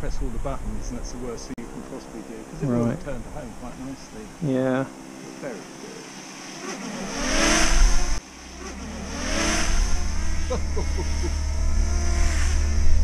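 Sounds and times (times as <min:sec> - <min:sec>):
drone propeller whine: 0:00.1 - 0:13.0.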